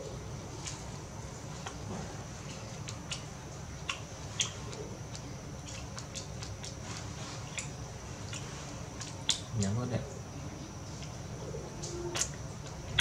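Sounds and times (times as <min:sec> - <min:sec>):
faint steady high whine: 0:00.0 - 0:13.0
soft wet chewing clicks: 0:00.6 - 0:10.2, 0:10.8 - 0:13.0.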